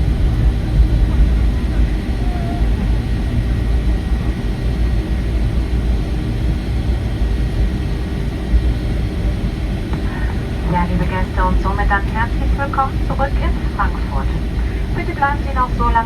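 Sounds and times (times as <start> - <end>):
airplane cabin low rumble: 0.0 - 16.0.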